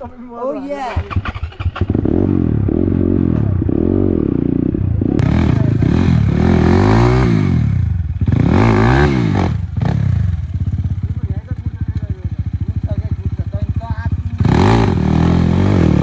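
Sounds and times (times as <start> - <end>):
dirt bike engine revving: 0.9 - 16.0.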